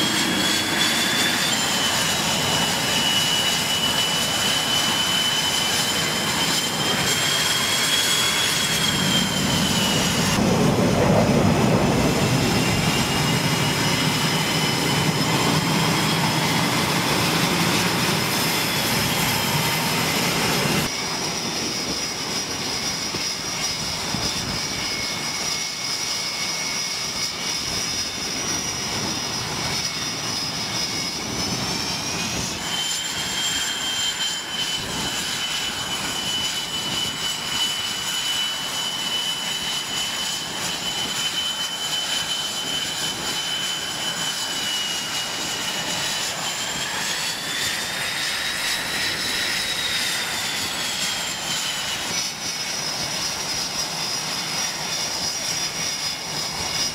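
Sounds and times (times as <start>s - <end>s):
broad rush of jet noise: 0.0s - 56.9s
jet engines whining: 0.0s - 56.9s.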